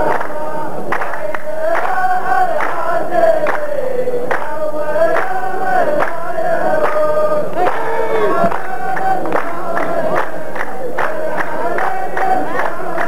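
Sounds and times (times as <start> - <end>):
sharp hand claps: 0.0 - 3.7, 4.3 - 13.0
men chanting in unison: 0.0 - 13.0.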